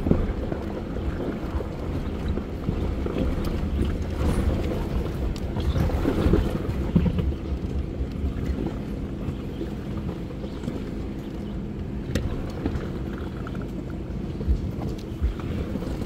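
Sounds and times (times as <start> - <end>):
engine low rumble: 0.0 - 16.0
wind buffeting microphone: 0.0 - 16.0.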